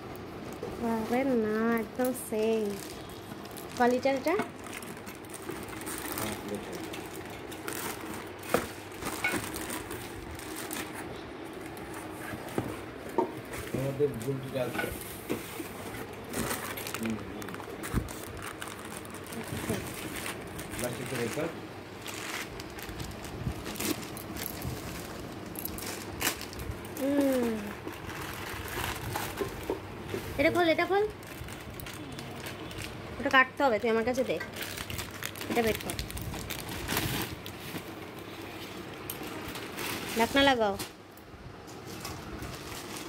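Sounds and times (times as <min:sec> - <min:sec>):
cardboard and plastic rustling: 0:00.4 - 0:41.0, 0:41.6 - 0:43.0
plastic wrapping crinkling: 0:00.6 - 0:41.0, 0:41.7 - 0:43.0.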